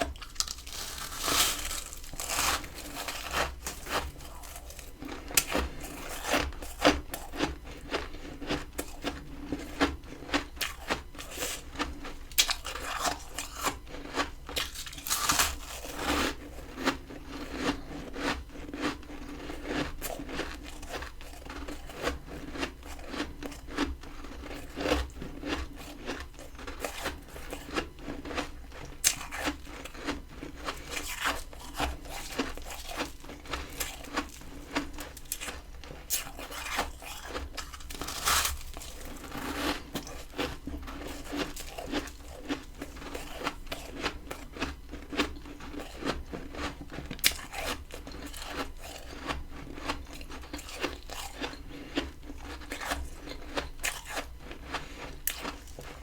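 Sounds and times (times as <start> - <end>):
crunching frost being chewed: 0.0 - 56.0.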